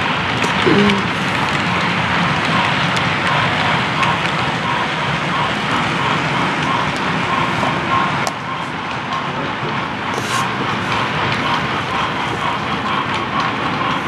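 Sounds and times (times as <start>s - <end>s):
model train wheels clattering on rails: 0.0s - 14.0s.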